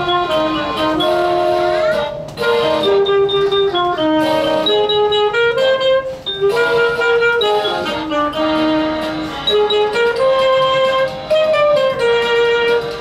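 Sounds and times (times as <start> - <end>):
saxophone playing a melody: 0.0 - 13.0.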